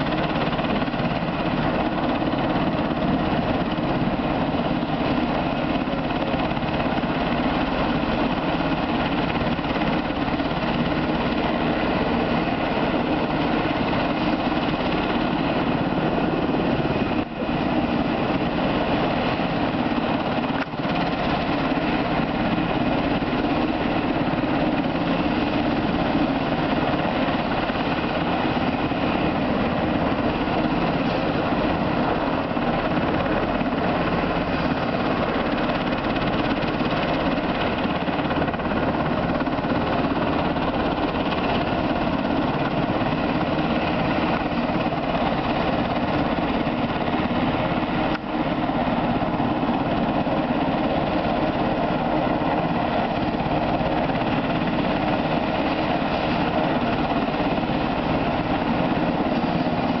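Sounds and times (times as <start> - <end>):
helicopter turbine and rotor drone: 0.0 - 60.0.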